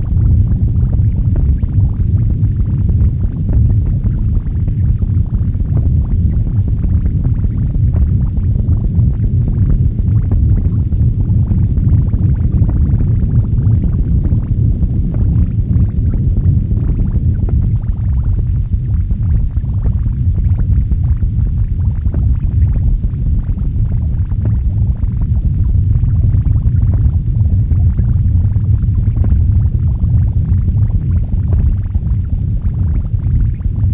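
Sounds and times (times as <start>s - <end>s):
dense low rumble: 0.0s - 33.9s.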